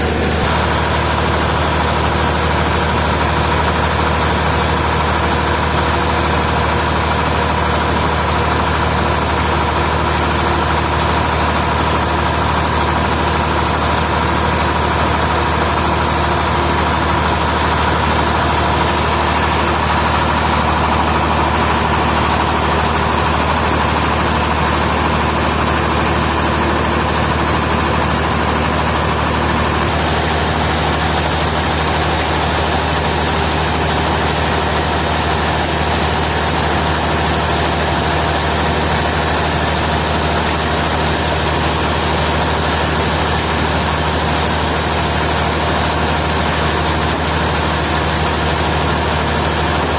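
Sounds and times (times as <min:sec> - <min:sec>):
sawmill machinery humming: 0:00.0 - 0:49.9
high machine whine: 0:08.7 - 0:49.9.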